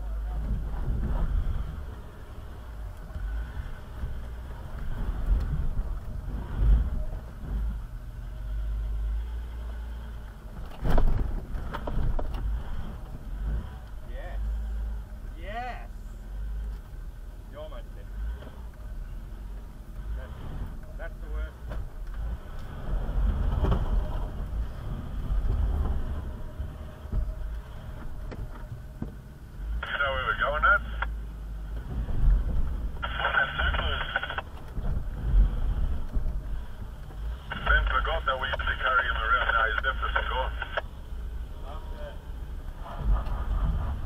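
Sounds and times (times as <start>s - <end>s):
car engine low rumble: 0.0s - 44.0s.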